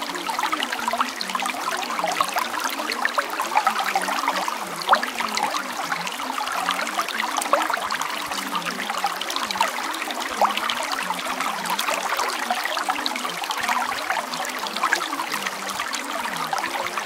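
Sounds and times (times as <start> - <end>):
water trickling and babbling: 0.0 - 17.0.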